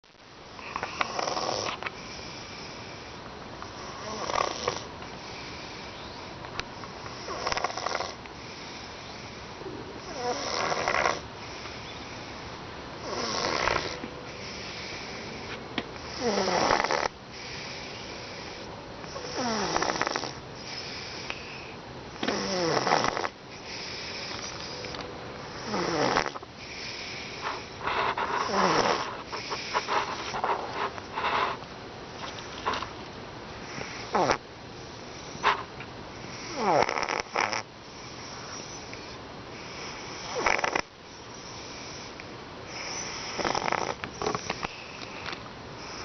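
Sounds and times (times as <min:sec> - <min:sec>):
cat snoring: 0:00.6 - 0:03.0, 0:03.7 - 0:05.8, 0:07.0 - 0:12.3, 0:13.0 - 0:30.4, 0:33.6 - 0:35.6, 0:36.2 - 0:44.8.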